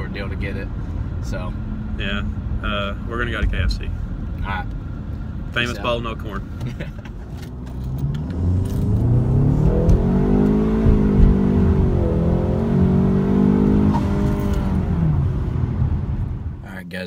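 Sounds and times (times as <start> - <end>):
car engine accelerating: 0.0 - 16.8.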